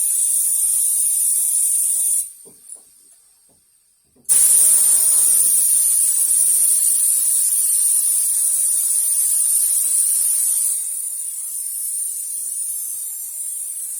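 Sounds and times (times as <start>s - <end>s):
paint spray hiss: 0.0s - 2.8s, 4.3s - 13.9s.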